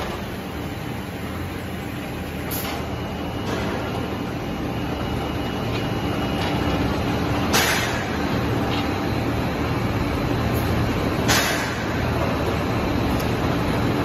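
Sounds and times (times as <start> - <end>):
machinery running with low hum: 0.0 - 14.0
roller conveyor: 0.0 - 14.0.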